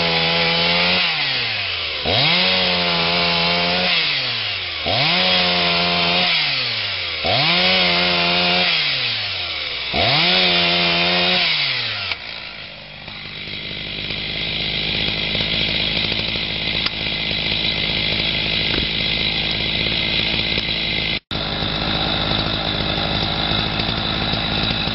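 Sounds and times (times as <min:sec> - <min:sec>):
chainsaw revving: 0:00.0 - 0:24.9.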